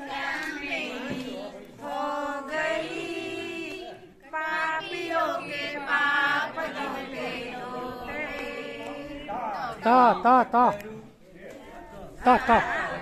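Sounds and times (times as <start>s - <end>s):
people singing together: 0.0s - 10.7s, 11.9s - 13.0s.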